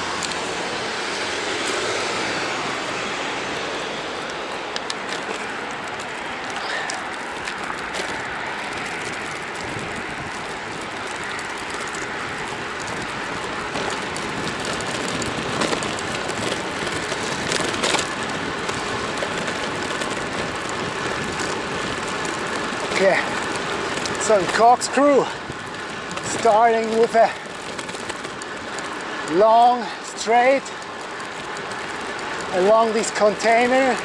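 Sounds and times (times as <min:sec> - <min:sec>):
wind on microphone: 0:00.0 - 0:29.2
bike tyres rolling on concrete: 0:00.0 - 0:34.0.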